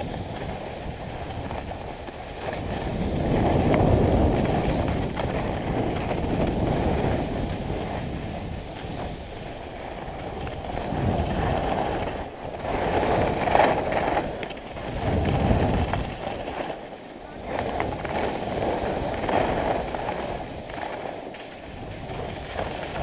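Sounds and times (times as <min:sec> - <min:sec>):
ski edges scraping packed snow: 0:00.0 - 0:23.0
wind on microphone: 0:00.0 - 0:23.0.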